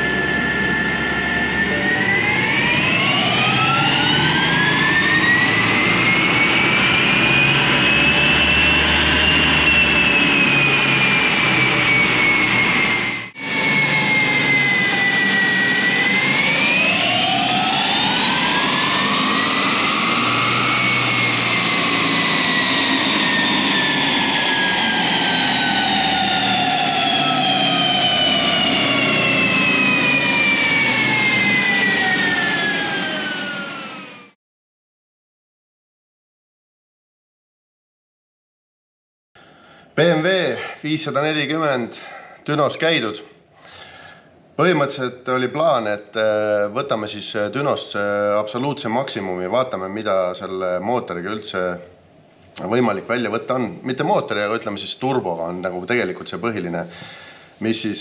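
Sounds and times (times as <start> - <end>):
dyno roller whine: 0.0 - 34.4, 39.4 - 58.0.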